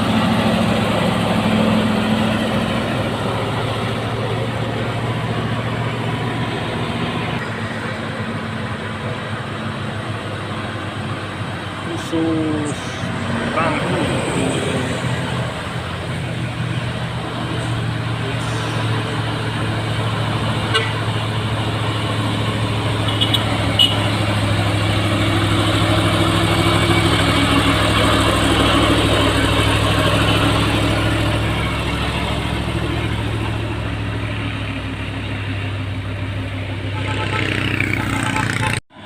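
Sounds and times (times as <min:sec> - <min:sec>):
truck engine passing: 0:00.0 - 0:39.0.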